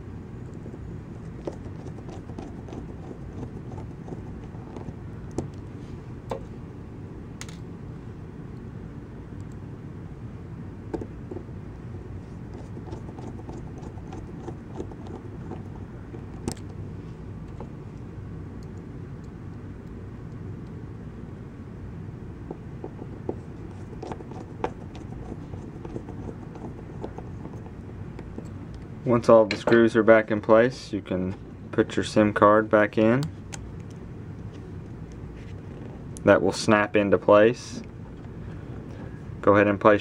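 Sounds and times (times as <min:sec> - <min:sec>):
low background hum: 0:00.0 - 0:40.0.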